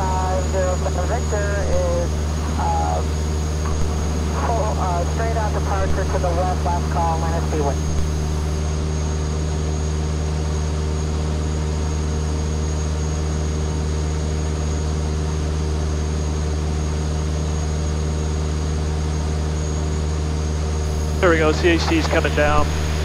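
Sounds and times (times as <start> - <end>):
aircraft engine and propeller drone: 0.0 - 23.0.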